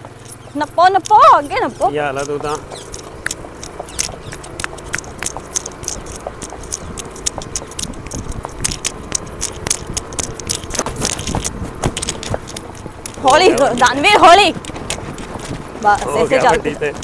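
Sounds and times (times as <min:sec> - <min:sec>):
horse hooves cantering on dirt: 0:00.0 - 0:17.0
steady rushing noise: 0:01.6 - 0:17.0.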